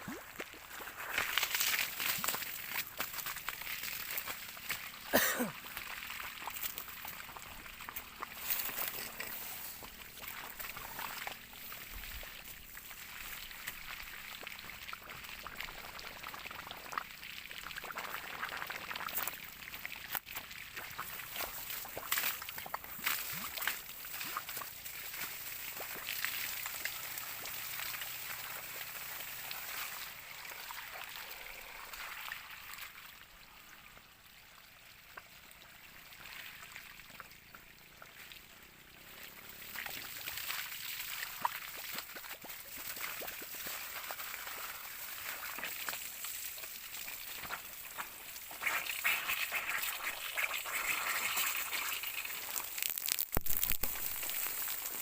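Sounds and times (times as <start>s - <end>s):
water running and splashing: 0.0s - 33.8s, 34.7s - 55.0s.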